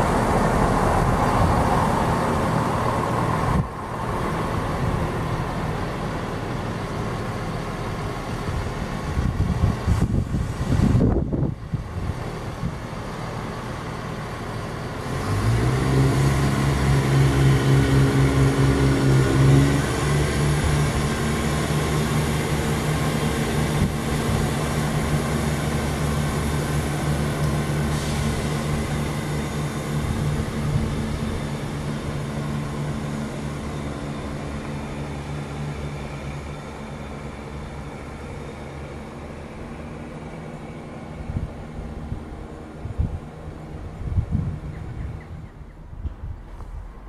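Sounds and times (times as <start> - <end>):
train diesel engines droning: 0.0 - 47.0.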